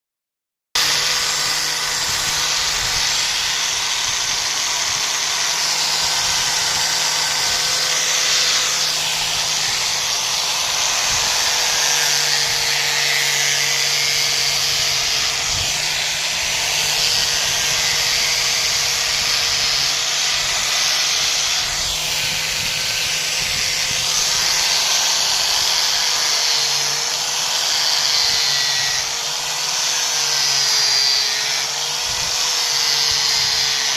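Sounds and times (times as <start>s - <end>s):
power grinder grinding wood: 0.8s - 33.9s.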